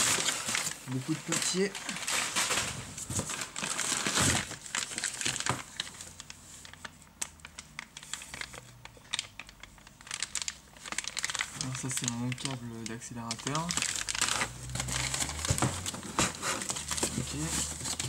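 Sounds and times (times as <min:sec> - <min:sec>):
paper and plastic crinkling: 0:00.0 - 0:18.0.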